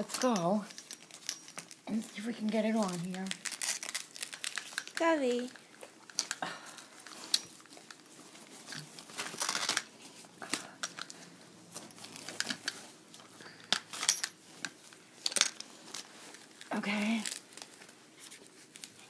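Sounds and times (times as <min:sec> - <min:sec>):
straps and padding rustling: 0:00.0 - 0:19.0.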